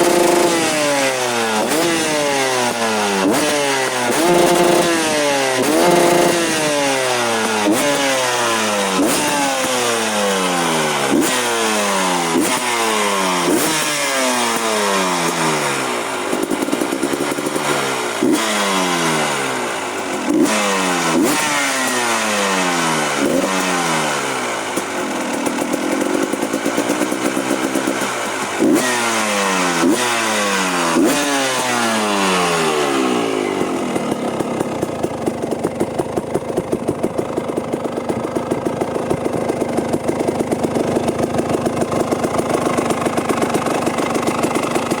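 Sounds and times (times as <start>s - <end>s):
motorcycle engine idling: 0.0s - 45.0s
motorcycle engine revving: 0.0s - 45.0s.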